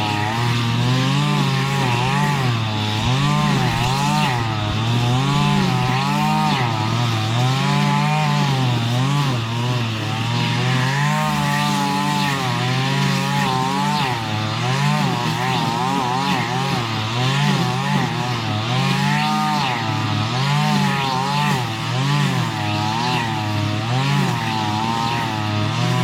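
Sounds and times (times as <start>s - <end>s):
string trimmer engine cutting grass: 0.0s - 26.0s.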